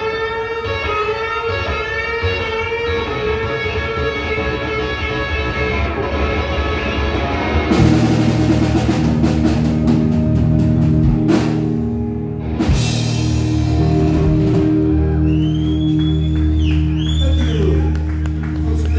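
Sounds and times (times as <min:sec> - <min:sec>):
live rock band playing: 0:00.0 - 0:18.9.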